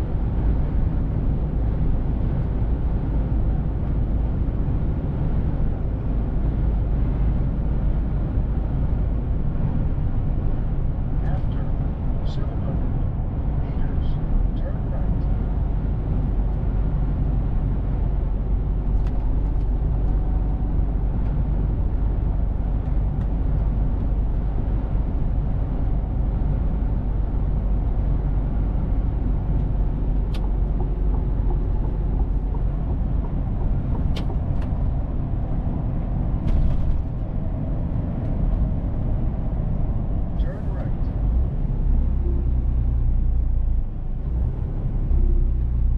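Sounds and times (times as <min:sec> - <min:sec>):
truck engine and road rumble: 0:00.0 - 0:45.9.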